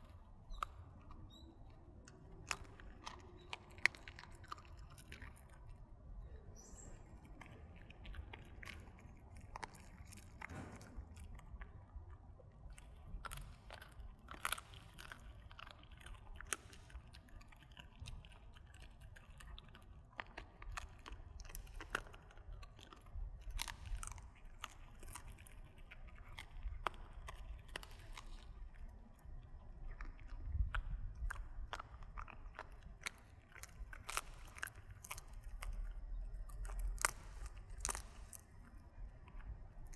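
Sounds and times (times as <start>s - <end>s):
dog crunching bones: 0.0s - 6.2s, 7.1s - 39.9s.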